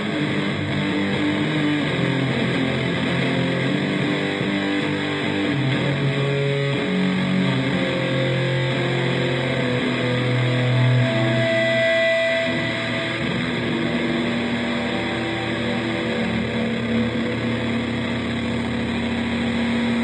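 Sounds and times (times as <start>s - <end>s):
electric guitar drone: 0.0s - 20.0s.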